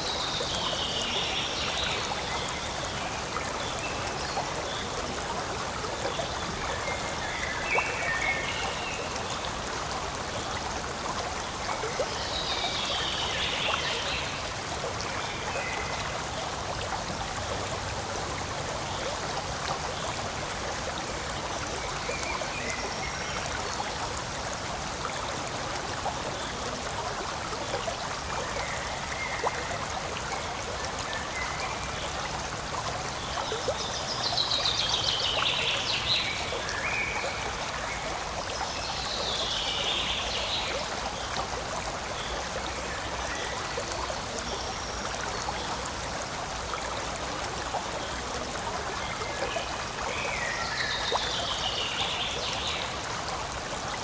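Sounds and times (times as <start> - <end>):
stream flowing and trickling: 0.0 - 54.0.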